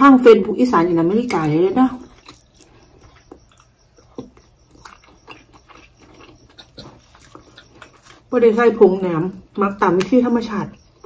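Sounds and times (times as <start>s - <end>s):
chewing sticky food: 0.8s - 11.0s.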